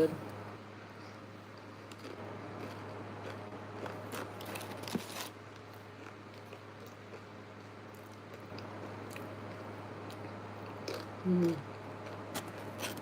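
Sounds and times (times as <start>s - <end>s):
steady low hum: 0.0s - 13.0s
person chewing: 1.1s - 13.0s.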